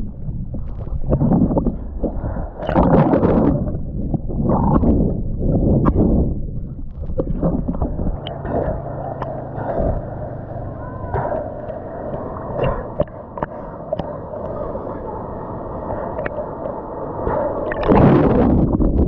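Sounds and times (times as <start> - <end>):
sea water sloshing and gurgling: 0.0 - 19.0
rush of water: 0.6 - 6.3, 6.9 - 19.0.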